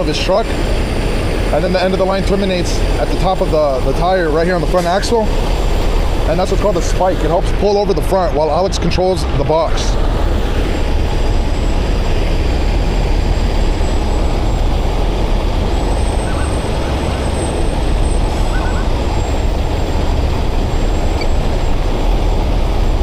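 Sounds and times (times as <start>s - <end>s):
diesel engines rumbling: 0.0s - 23.0s.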